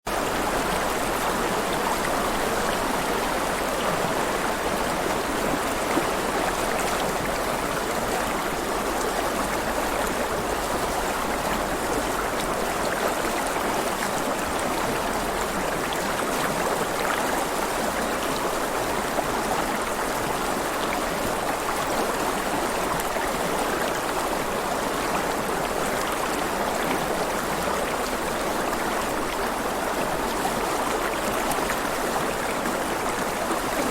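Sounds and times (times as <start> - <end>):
river water rushing over rocks: 0.1 - 33.9.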